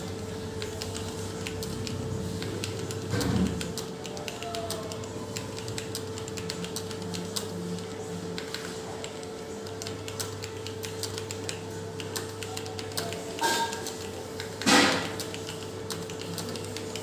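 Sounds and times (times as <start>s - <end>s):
typing on computer keyboard: 0.0s - 17.0s.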